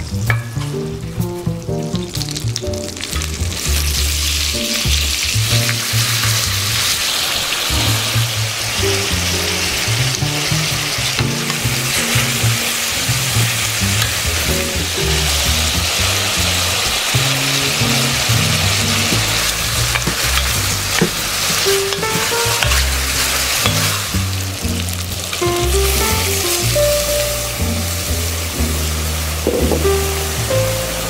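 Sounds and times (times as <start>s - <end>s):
background music bass: 0.0s - 7.0s, 7.7s - 31.0s
food sizzling in oil: 0.0s - 31.0s.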